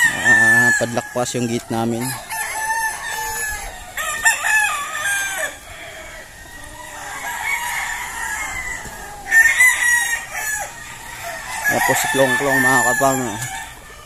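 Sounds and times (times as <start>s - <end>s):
faint distant roosters crowing: 0.0s - 14.0s
rooster crowing: 0.0s - 14.0s.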